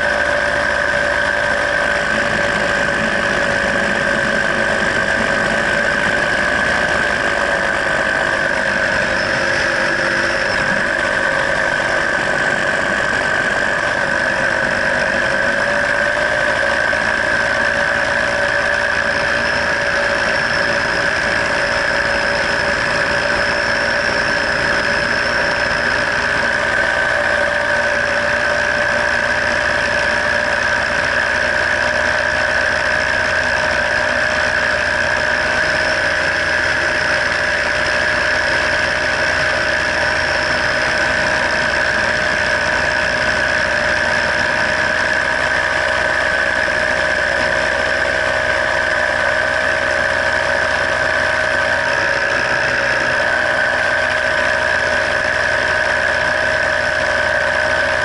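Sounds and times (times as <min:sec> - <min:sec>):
paramotor engine and propeller drone: 0:00.0 - 0:58.0.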